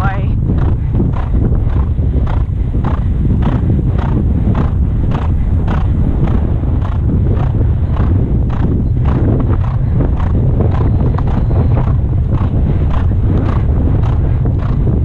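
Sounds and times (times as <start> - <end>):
horse galloping on grass: 0.0 - 15.0
wind noise on microphone: 0.0 - 15.0.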